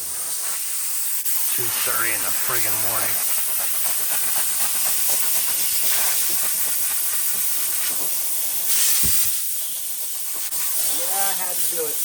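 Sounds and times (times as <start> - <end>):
rushing air hiss: 0.0 - 12.0.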